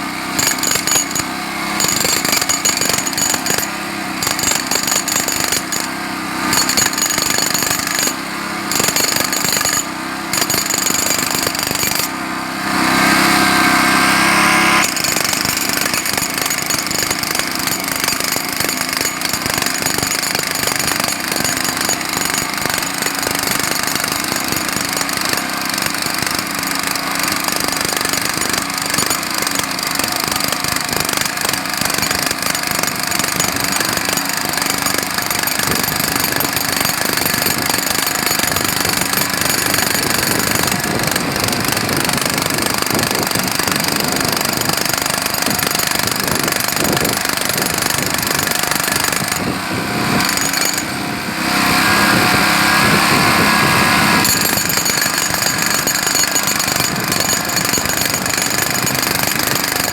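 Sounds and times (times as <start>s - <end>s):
jackhammer hammering: 0.0s - 59.9s.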